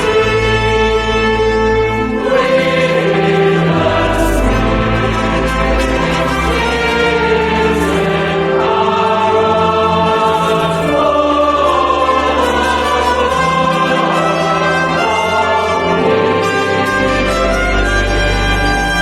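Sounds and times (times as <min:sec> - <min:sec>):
choir singing with instruments: 0:00.0 - 0:19.0.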